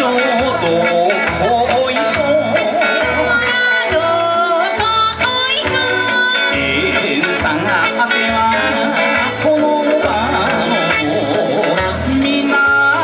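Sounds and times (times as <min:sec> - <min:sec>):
drum beat: 0:00.0 - 0:13.0
wavering folk singing: 0:00.0 - 0:13.0.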